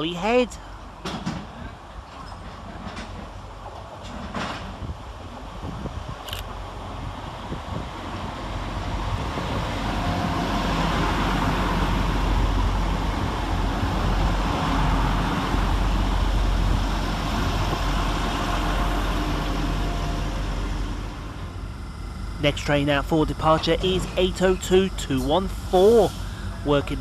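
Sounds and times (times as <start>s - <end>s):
train engines droning: 0.0s - 27.0s.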